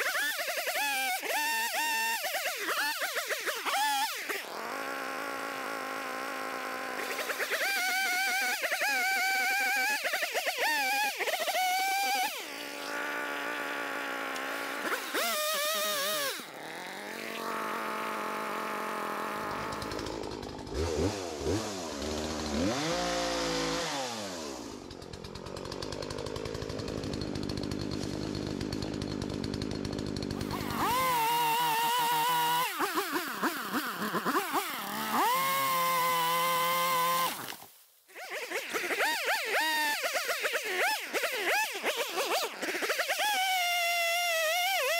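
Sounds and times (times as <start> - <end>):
chainsaw cutting timber: 0.0 - 44.9.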